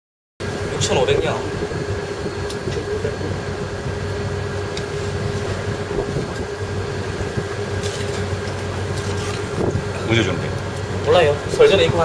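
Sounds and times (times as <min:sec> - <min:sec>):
ship engines droning: 0:00.4 - 0:12.0.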